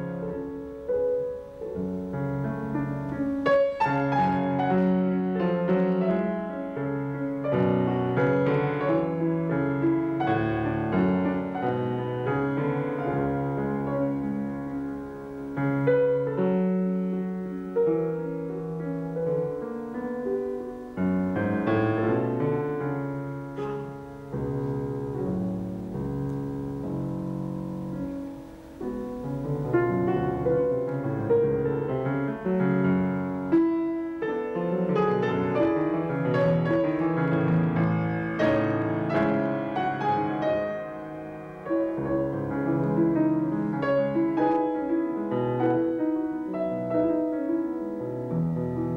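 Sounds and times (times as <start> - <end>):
solo classical piano: 0.0 - 48.9.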